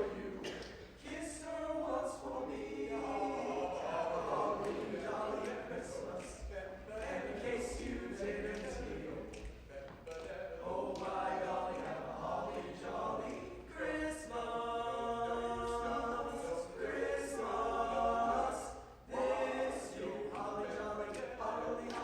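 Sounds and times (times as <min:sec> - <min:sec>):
choir singing unaccompanied: 0:00.0 - 0:22.0.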